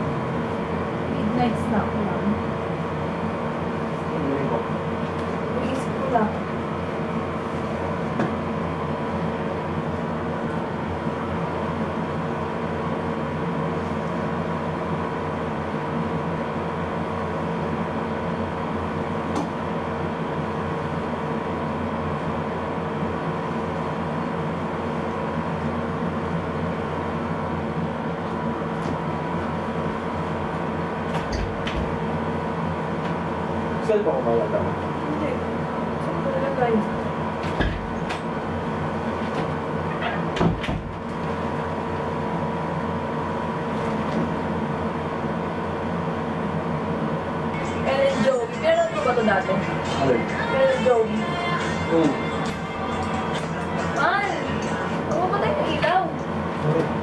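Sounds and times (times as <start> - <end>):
appliance humming: 0.0 - 57.0.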